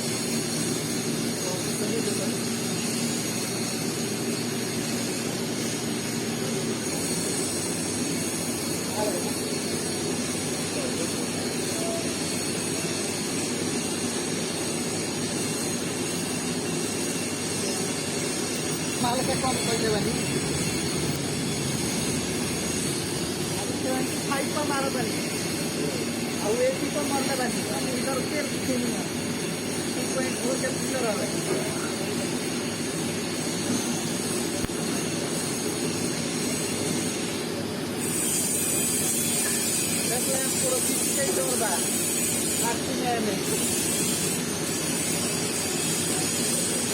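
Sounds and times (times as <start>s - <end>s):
whooshing machine noise: 0.0s - 46.9s.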